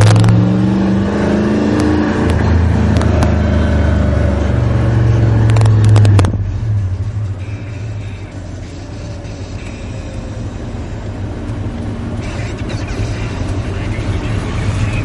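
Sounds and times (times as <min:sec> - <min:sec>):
pickup truck engine: 0:00.0 - 0:15.0.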